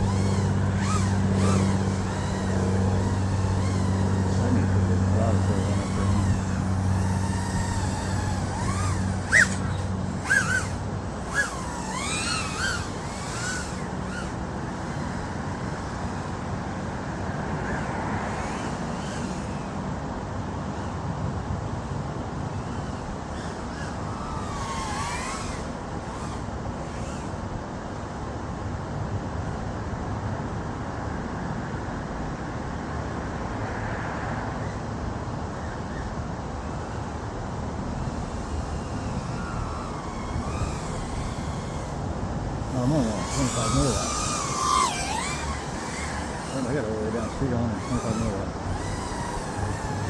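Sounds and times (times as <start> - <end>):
drone motors whining: 0.0 - 28.4, 35.6 - 50.0.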